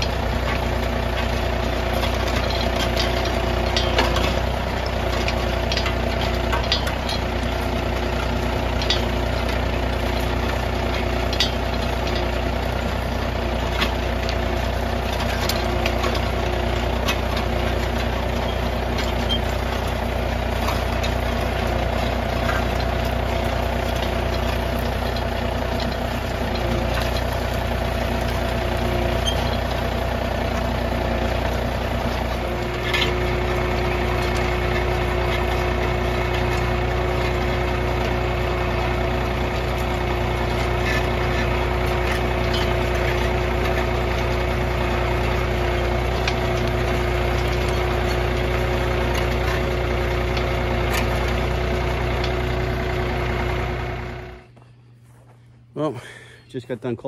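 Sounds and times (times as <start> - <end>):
sharp clicks and knocks: 0.0 - 54.6
tractor diesel engine running: 0.0 - 57.0.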